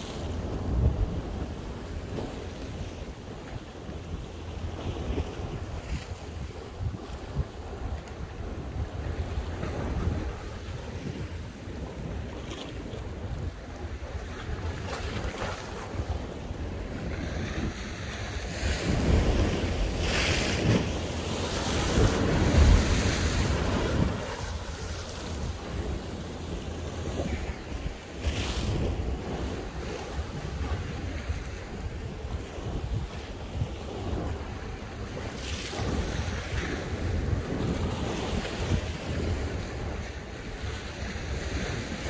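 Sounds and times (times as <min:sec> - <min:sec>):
sea waves washing onto shore: 0:00.0 - 0:42.0
wind buffeting microphone: 0:00.0 - 0:42.0.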